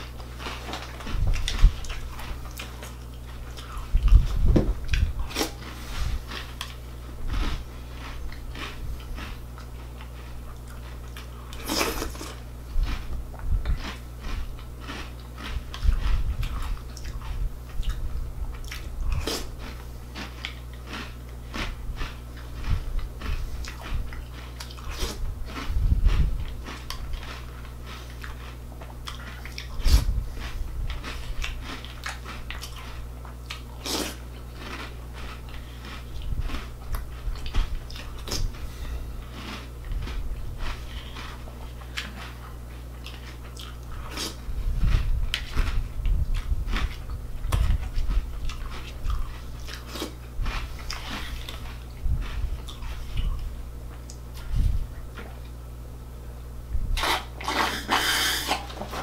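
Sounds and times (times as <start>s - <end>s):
crunching cereal: 0.0s - 4.4s, 5.0s - 38.6s, 39.2s - 45.8s, 46.6s - 54.1s.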